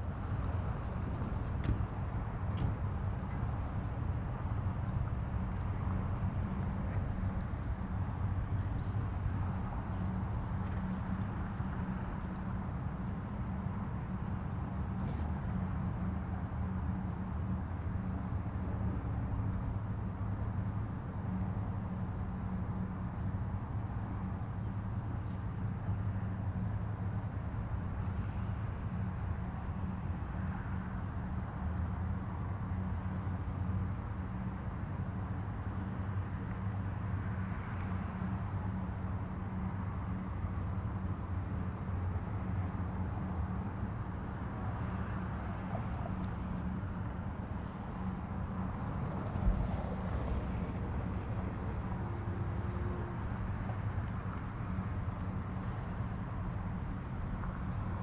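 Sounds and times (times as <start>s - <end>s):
distant highway traffic rumble: 0.0s - 58.0s.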